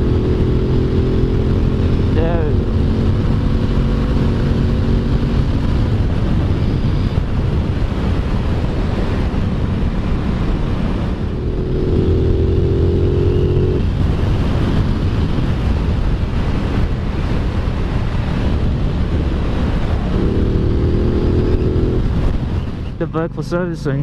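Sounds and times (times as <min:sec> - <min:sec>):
motorcycle engine running: 0:00.0 - 0:24.0
riding wind noise: 0:00.0 - 0:24.0.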